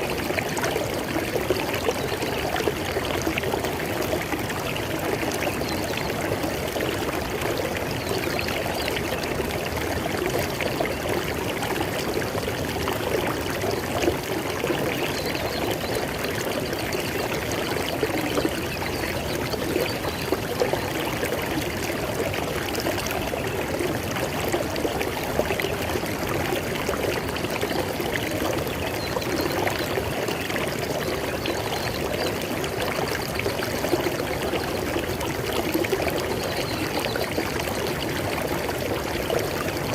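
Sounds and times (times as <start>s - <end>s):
river water flowing over rocks: 0.0s - 39.9s
small water splashes: 0.0s - 39.9s.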